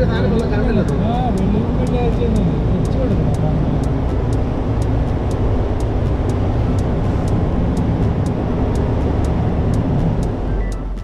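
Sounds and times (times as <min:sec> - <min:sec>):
faint regular ticking: 0:00.0 - 0:11.0
truck road and engine rumble: 0:00.0 - 0:11.0.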